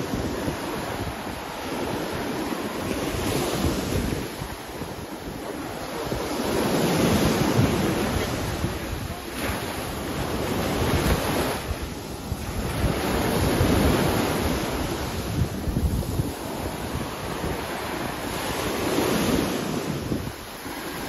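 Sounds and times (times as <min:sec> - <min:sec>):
waves breaking on sandy shore: 0:00.0 - 0:21.0
wind rumbling on microphone: 0:00.0 - 0:21.0.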